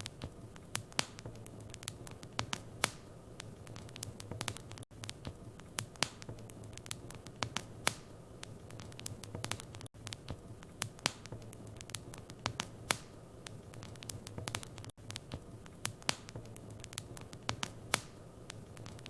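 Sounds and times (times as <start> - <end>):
soft steady hiss: 0.0 - 19.0
wood fire crackling and popping: 0.0 - 19.0.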